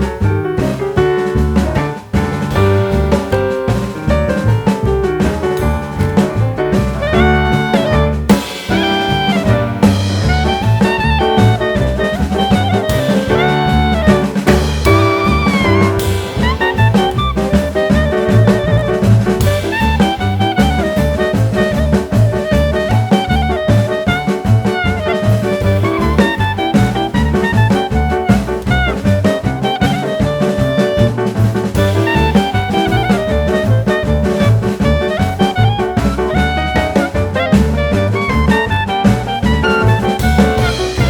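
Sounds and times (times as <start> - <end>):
bass: 0.0 - 41.0
drum kit: 0.0 - 41.0
saxophone melody: 5.5 - 41.0.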